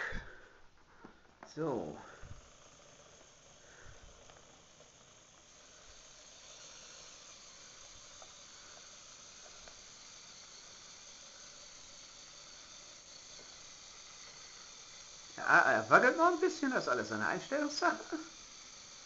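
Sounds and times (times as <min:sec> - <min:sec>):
small electric motors running: 0:00.0 - 0:19.0.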